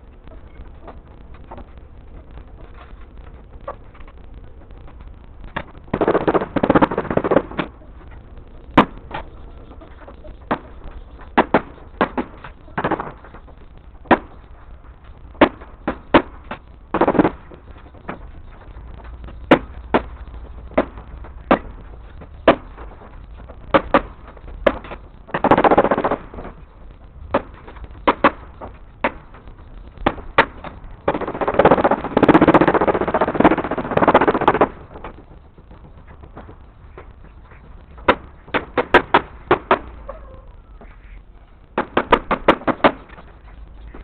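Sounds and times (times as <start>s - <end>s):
noisy bursts: 0.0s - 44.0s.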